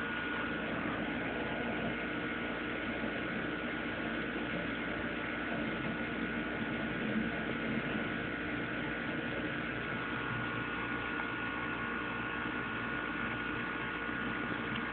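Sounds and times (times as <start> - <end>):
steady hum: 0.0 - 14.9
thin constant whine: 0.0 - 14.9.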